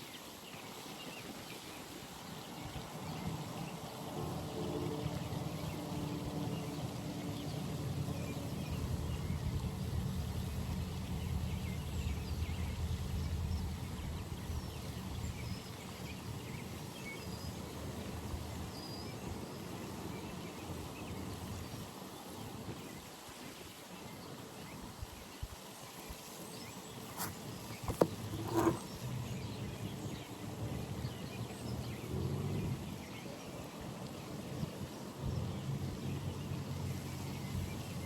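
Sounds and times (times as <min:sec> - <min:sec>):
outdoor background hiss: 0:00.0 - 0:38.0.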